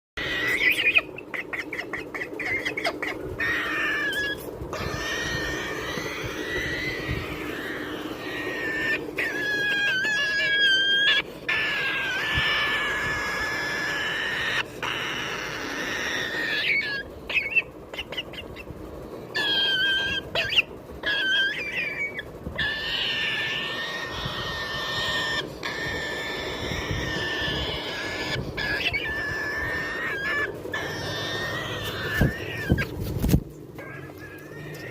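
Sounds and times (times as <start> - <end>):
cockatoo calling: 0.2 - 34.9.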